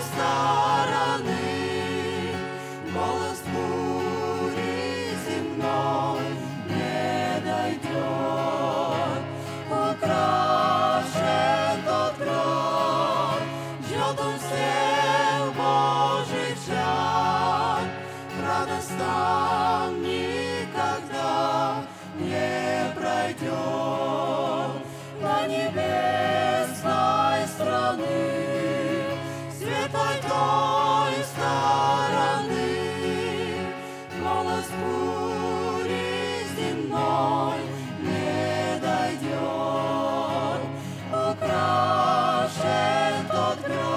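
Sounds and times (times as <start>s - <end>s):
acoustic guitar: 0.0s - 43.9s
vocal group singing a hymn: 0.0s - 43.9s.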